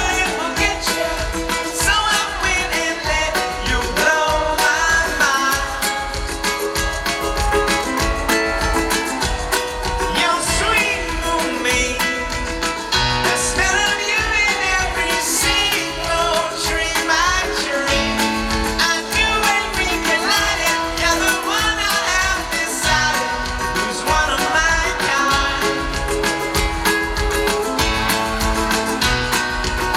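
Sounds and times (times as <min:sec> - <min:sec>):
lead singer singing: 0:00.0 - 0:27.2
guitars playing: 0:00.0 - 0:29.9
steady drum beat: 0:00.0 - 0:29.9.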